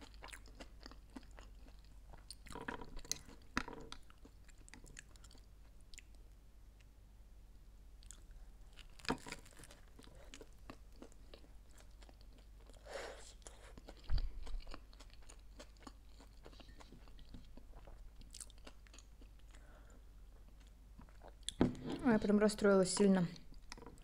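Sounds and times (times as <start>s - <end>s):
crunchy chewing: 0.0s - 6.2s, 8.0s - 22.0s.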